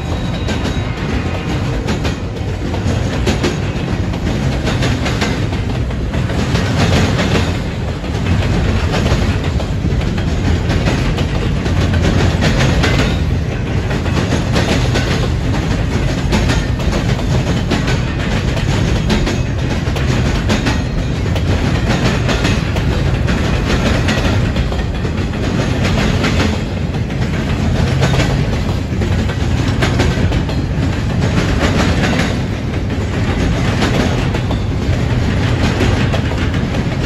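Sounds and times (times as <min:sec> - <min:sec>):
freight train rolling past: 0:00.0 - 0:37.0
steel wheels clicking over rail joints: 0:00.0 - 0:37.0.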